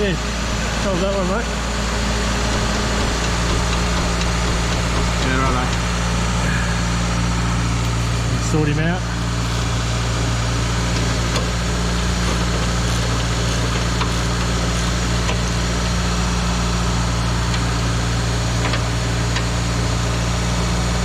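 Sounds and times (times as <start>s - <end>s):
motor drone: 0.0s - 21.0s.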